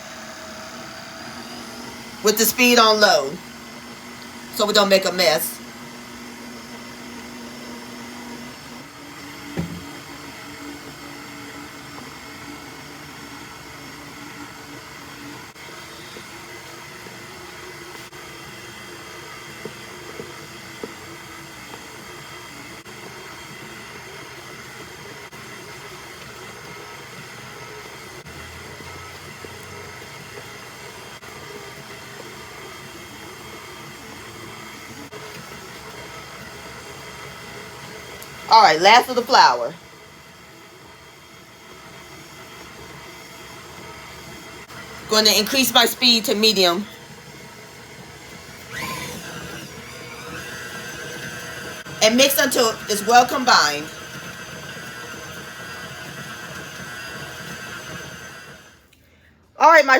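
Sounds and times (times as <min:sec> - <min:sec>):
stand mixer running: 0:00.0 - 0:58.9.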